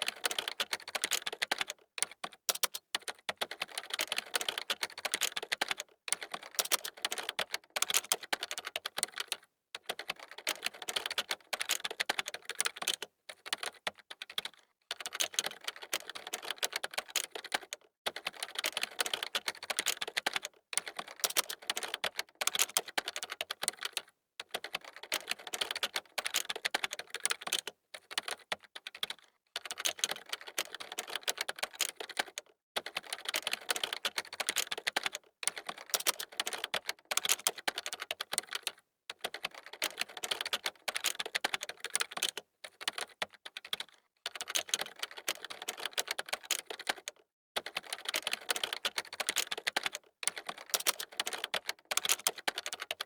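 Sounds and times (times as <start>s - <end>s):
fast typing on keyboard: 0.0s - 53.0s.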